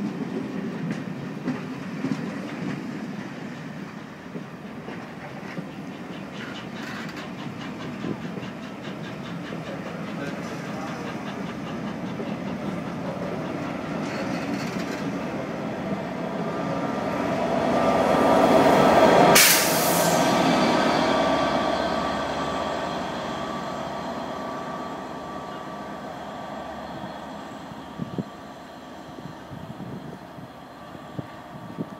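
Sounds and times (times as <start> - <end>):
train rolling on rails: 0.0 - 31.9.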